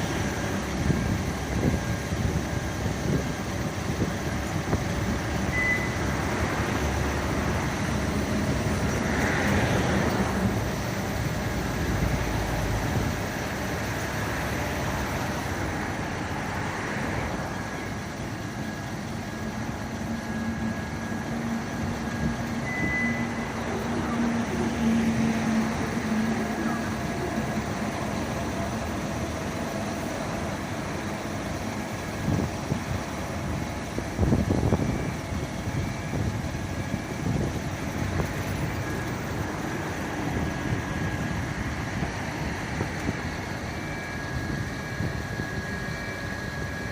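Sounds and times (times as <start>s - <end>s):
traffic noise: 0.0s - 46.9s
vehicle engines running: 0.0s - 46.9s.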